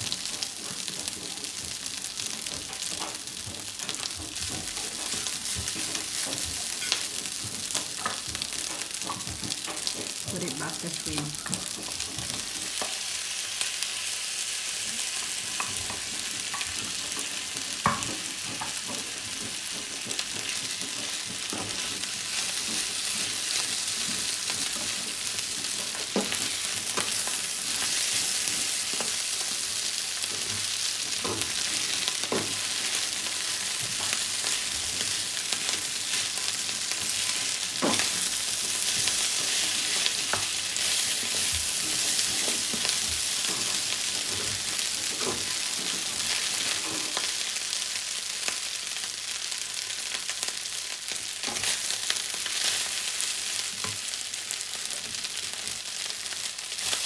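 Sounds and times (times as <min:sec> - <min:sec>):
spatula scraping a pan: 0:00.0 - 0:10.3, 0:10.9 - 0:47.8
rice sizzling in a hot pan: 0:00.0 - 0:57.0.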